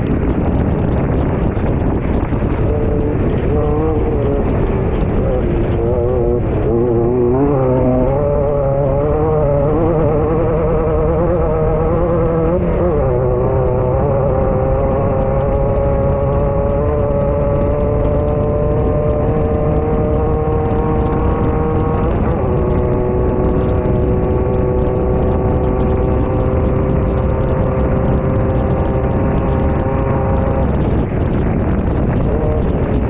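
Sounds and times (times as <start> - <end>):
chassis rattle: 0.0 - 33.0
low rumble of wind: 0.0 - 33.0
race car engine at high revs: 0.0 - 33.0.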